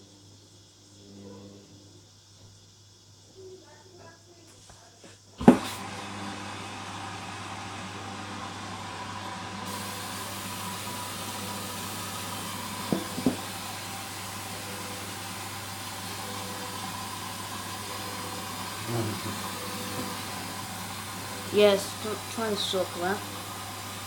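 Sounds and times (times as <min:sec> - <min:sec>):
washing machine hissing and humming: 0:00.0 - 0:04.4, 0:05.3 - 0:24.0.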